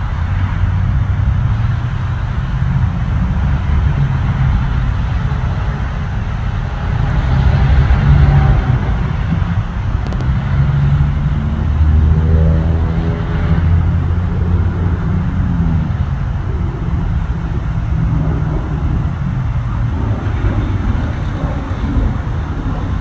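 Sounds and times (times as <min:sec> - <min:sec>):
low engine rumble: 0:00.0 - 0:23.0
multi-tone whine: 0:00.0 - 0:23.0.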